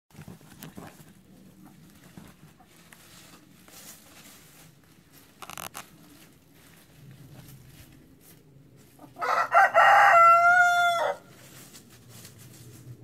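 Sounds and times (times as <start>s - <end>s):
chickens scratching in dry leaves: 0.2s - 13.0s.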